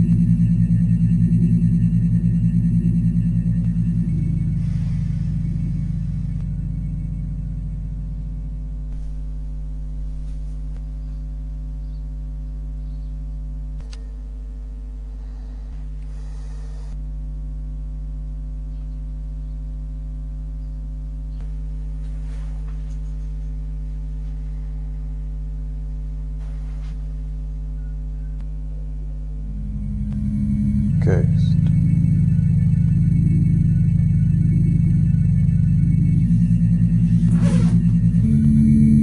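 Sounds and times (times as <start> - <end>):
low drone of held tones: 0.0 - 26.4, 27.4 - 39.0.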